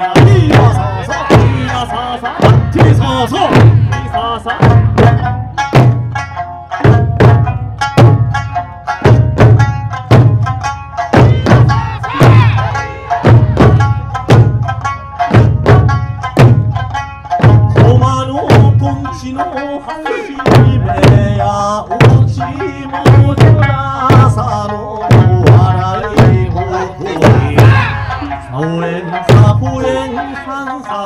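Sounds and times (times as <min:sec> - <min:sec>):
folk song with plucked lute: 0:00.0 - 0:11.2, 0:12.7 - 0:27.4, 0:28.0 - 0:31.0
deep drum booms: 0:00.0 - 0:19.3, 0:20.3 - 0:30.1.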